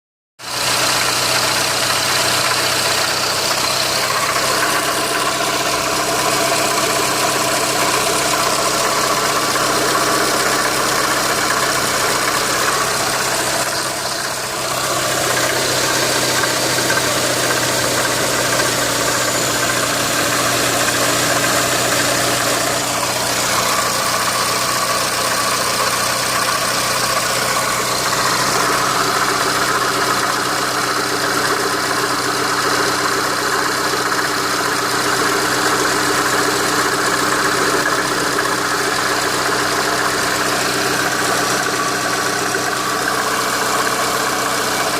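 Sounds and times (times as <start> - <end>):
car engine idling with knock: 0.4 - 44.9.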